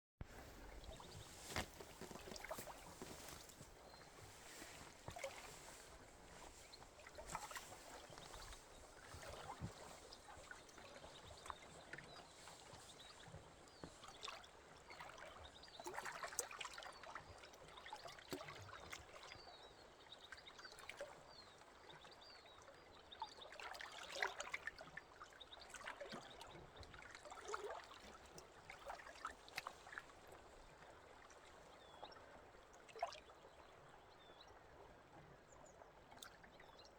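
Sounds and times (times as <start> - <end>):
water trickling and lapping: 0.2 - 36.9
small water splashes: 0.3 - 36.9.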